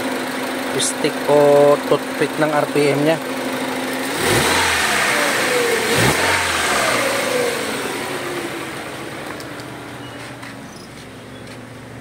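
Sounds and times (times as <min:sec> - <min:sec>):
car engine settling to idle: 0:00.0 - 0:12.0.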